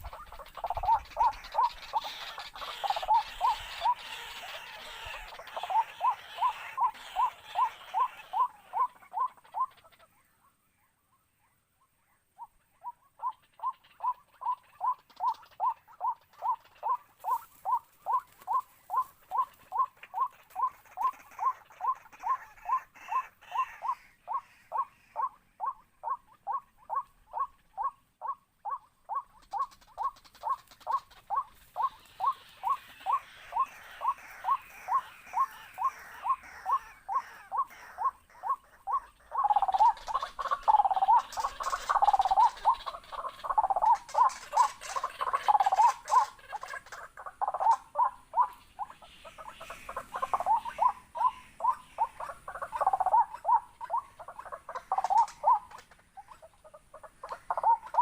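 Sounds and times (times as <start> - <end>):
waterhen calling: 0.0 - 10.8, 11.4 - 58.0.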